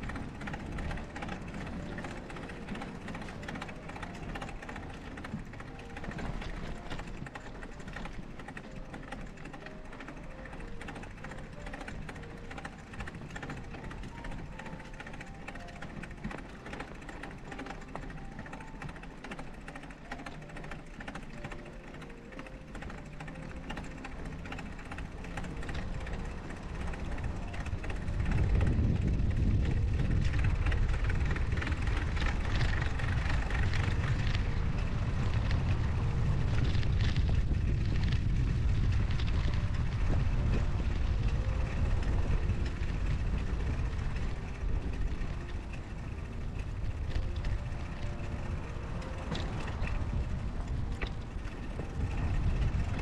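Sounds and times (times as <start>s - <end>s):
gentle background music: 0.0s - 53.0s
low rumble: 0.0s - 53.0s
steady rushing noise: 0.0s - 53.0s.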